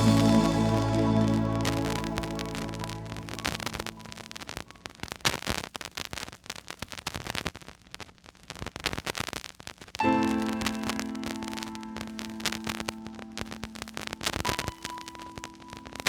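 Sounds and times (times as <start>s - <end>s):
vinyl crackles and clicks: 0.0s - 16.0s
vinyl record hiss: 0.0s - 16.0s.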